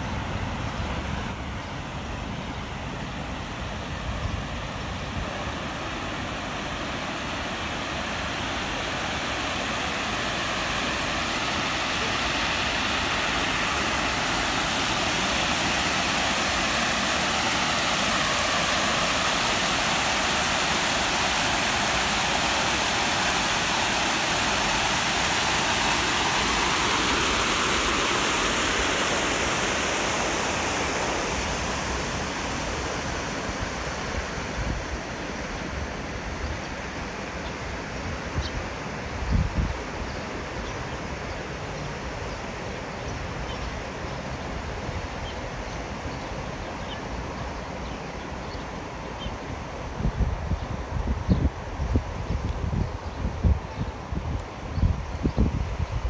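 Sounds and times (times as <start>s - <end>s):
river water rushing over weir: 0.0s - 56.0s.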